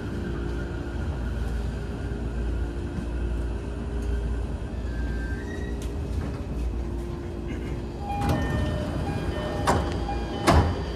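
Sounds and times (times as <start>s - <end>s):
train rumbling and braking: 0.0s - 10.9s.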